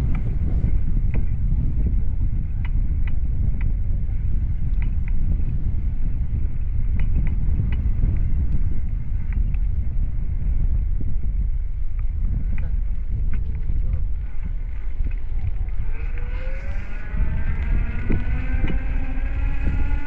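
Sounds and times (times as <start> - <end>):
bicycle clicks and rattles: 0.0 - 9.8, 11.9 - 20.0
wind buffeting microphone: 0.0 - 20.0.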